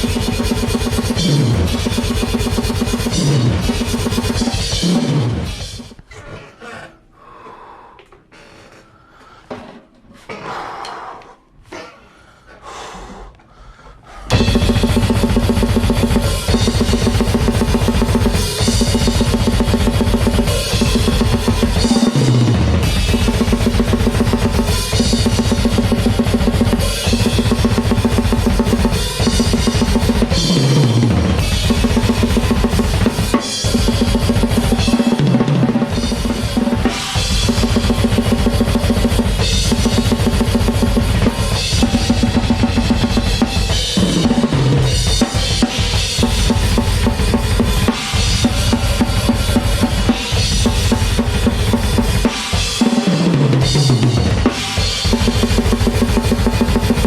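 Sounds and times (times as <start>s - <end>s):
fast drum kit blast beats: 0.0s - 6.0s, 14.3s - 57.0s.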